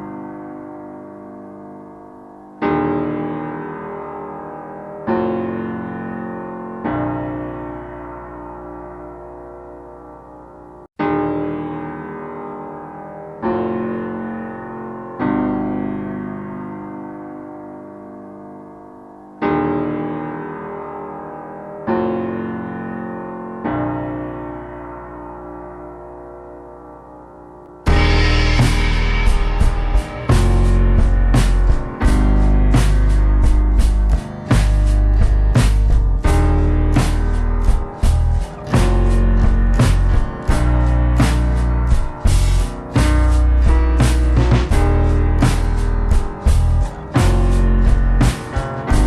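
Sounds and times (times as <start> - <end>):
slow piano chords: 0.0 - 49.0.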